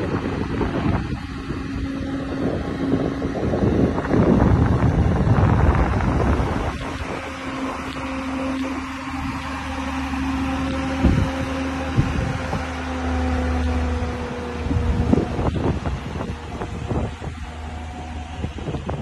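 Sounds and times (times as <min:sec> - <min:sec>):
car engine droning: 0:00.0 - 0:19.0
wind buffeting microphone: 0:00.0 - 0:19.0.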